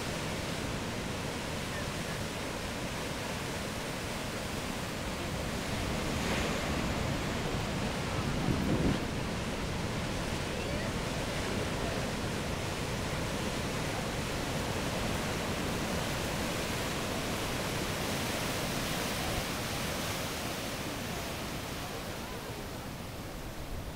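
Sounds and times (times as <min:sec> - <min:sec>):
ocean surf breaking: 0:00.0 - 0:23.9.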